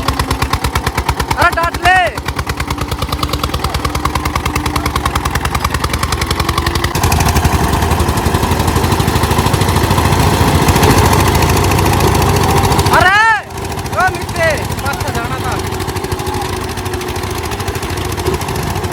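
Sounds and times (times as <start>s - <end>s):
tractor diesel engine chugging: 0.0s - 18.9s.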